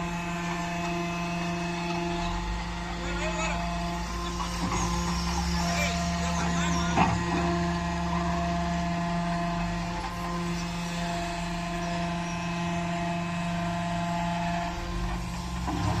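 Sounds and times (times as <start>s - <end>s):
hydraulic pump motor humming: 0.0s - 16.0s.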